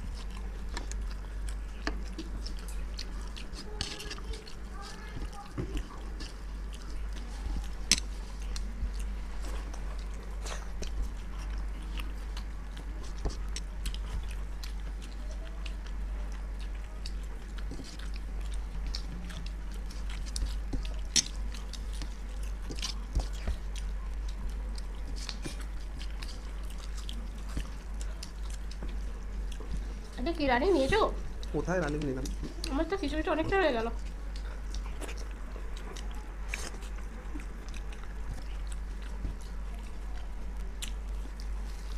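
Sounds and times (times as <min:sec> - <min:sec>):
people chewing food: 0:00.0 - 0:41.9
steady low hum: 0:00.0 - 0:41.9.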